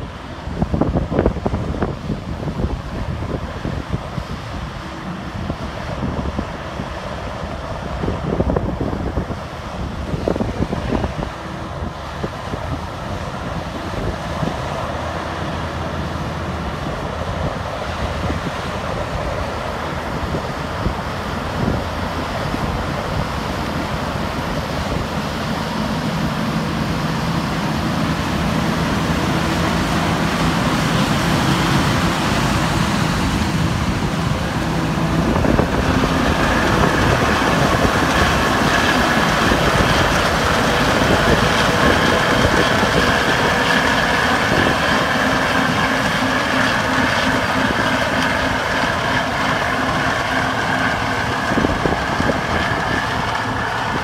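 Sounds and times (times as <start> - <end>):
combine harvester running: 0.0 - 54.0
high machine whine: 10.1 - 54.0.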